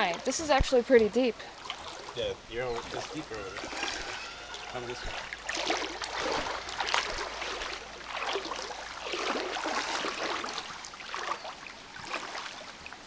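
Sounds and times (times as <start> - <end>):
running stream: 0.0 - 13.0
water sloshing around legs: 0.0 - 13.0.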